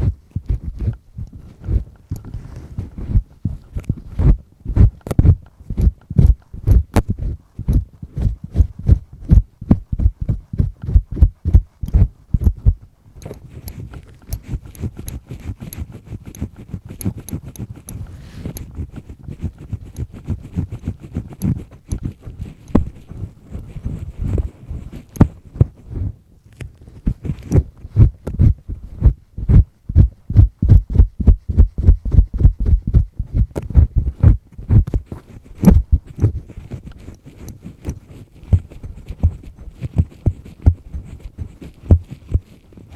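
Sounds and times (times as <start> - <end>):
earpick scraping in ear: 0.0 - 30.1, 30.7 - 42.9.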